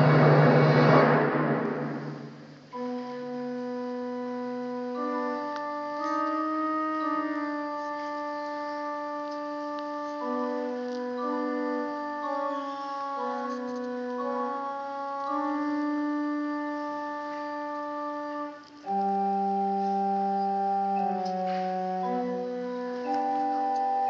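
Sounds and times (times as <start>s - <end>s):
live ensemble music: 0.0s - 24.0s.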